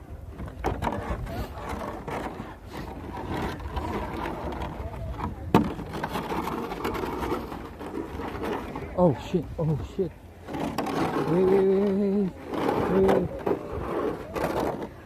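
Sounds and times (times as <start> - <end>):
sled scraping over icy snow: 0.0 - 15.0.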